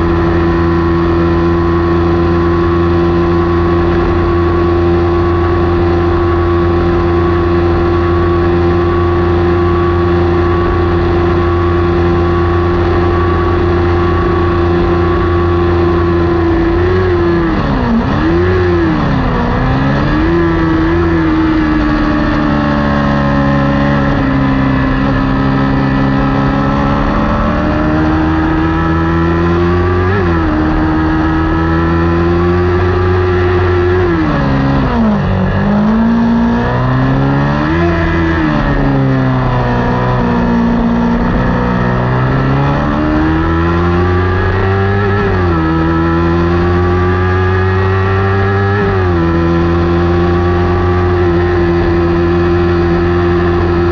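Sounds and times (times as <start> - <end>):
motorcycle engine revving high: 0.0 - 53.9.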